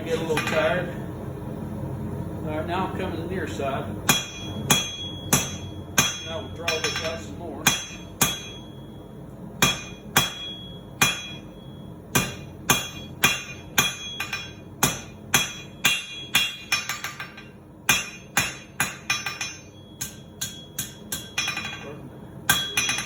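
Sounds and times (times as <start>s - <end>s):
hammer striking steel on anvil: 0.1s - 0.8s, 4.0s - 9.0s, 9.6s - 23.0s.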